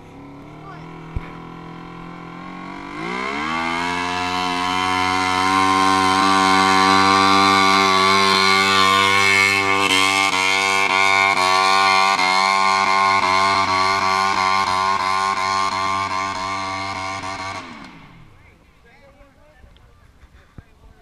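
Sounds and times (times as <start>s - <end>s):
small tractor engine revving: 0.0s - 18.5s.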